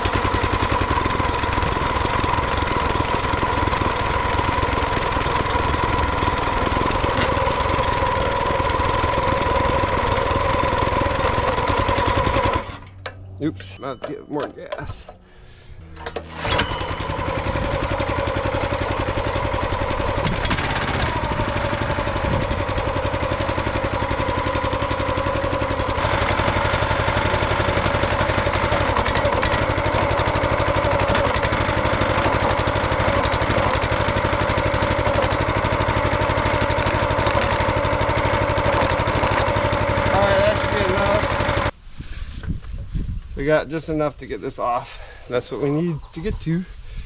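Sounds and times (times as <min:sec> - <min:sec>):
small gasoline engine running: 0:00.0 - 0:13.1, 0:16.0 - 0:41.8.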